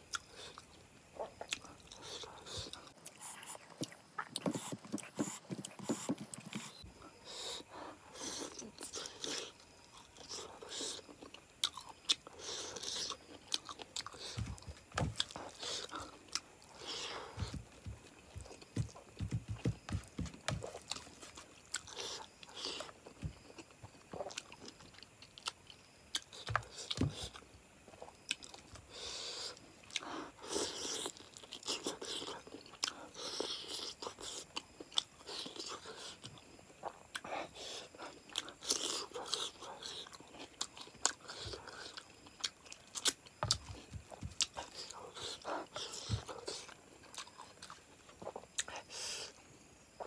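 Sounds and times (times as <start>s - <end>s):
person chewing food: 0.1s - 6.9s, 8.2s - 28.8s, 29.4s - 48.9s.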